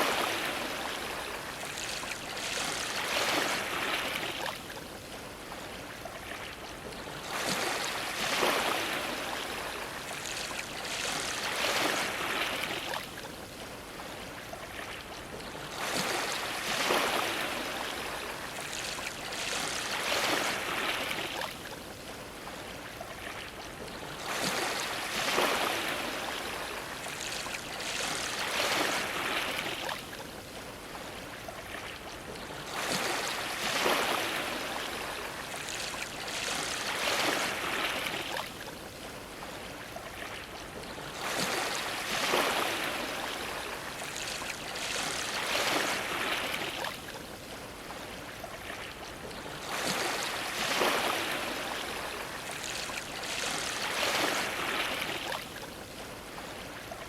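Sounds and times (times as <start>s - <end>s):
steady water wash: 0.0s - 57.0s
waves splashing against a dock: 0.0s - 57.0s.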